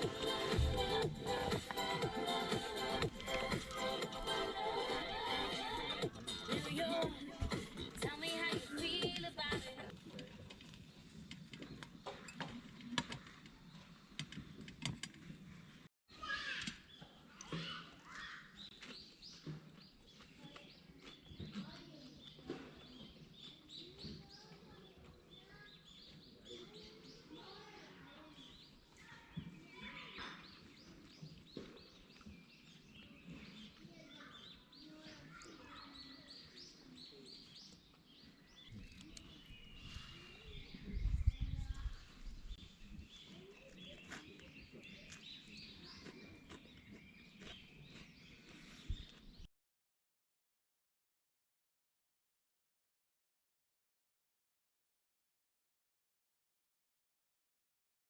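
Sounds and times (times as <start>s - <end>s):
songbirds chirping and singing: 0.0s - 15.9s, 16.6s - 49.5s.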